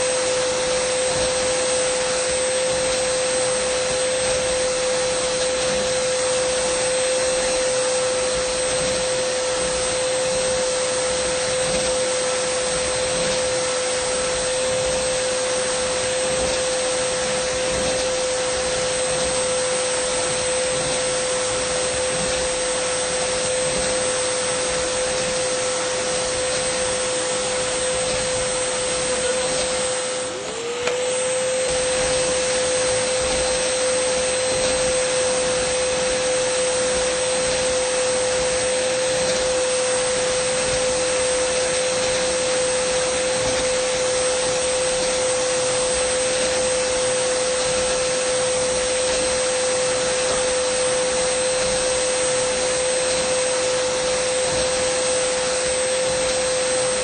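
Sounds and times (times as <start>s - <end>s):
vacuum cleaner motor whining: 0.0s - 57.0s.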